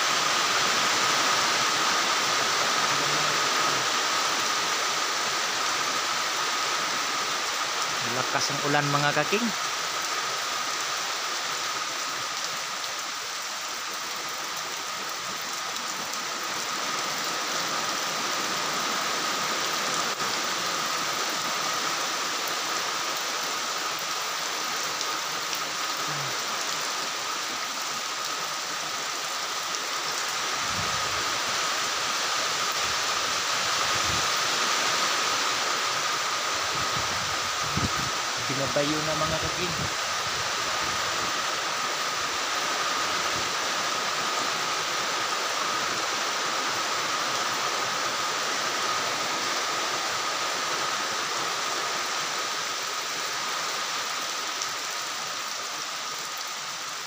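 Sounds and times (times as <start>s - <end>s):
heavy rain on metal roofs: 0.0s - 57.0s.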